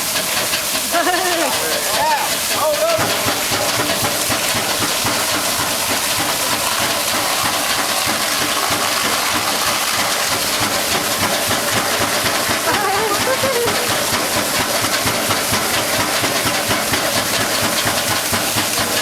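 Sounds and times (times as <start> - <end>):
steam fire engine pumping water: 0.0 - 19.0.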